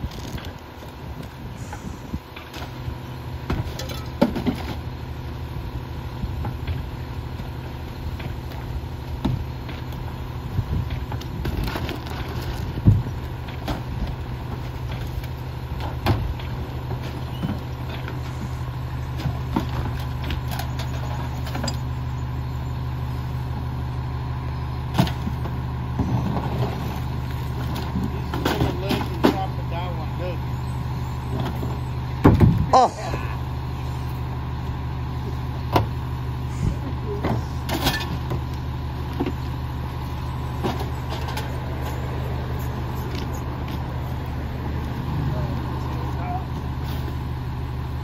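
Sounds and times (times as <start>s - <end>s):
garbage truck engine running: 0.0s - 48.0s.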